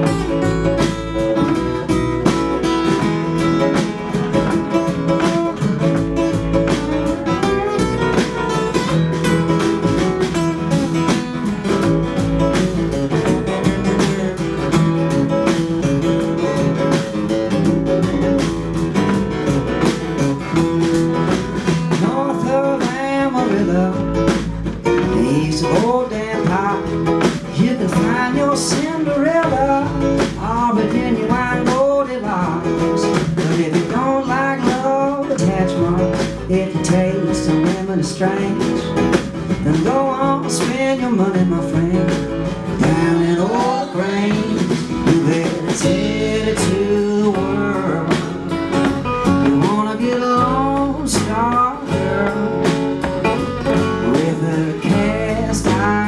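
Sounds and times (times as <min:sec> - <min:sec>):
country band playing: 0:00.0 - 0:56.0
sliding lead guitar melody: 0:00.0 - 0:56.0.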